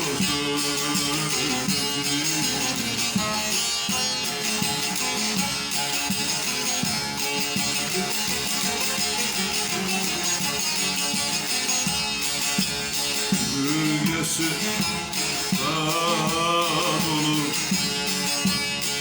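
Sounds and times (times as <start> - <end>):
plucked string instrument: 0.0 - 19.0.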